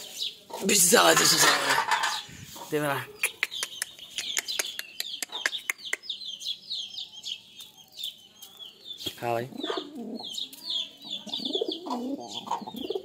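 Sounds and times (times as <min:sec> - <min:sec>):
birds pecking at feed: 0:00.0 - 0:13.0
chickens clucking: 0:00.0 - 0:13.0.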